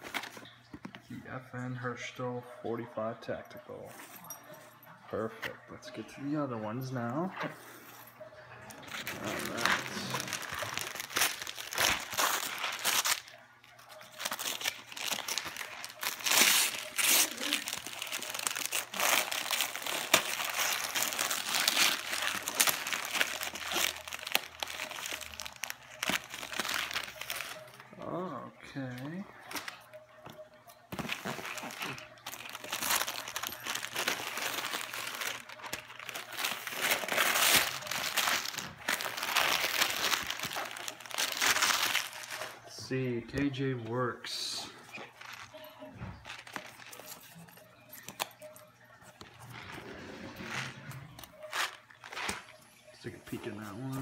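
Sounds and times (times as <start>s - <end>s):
wrapping paper crinkling: 5.9s - 54.0s.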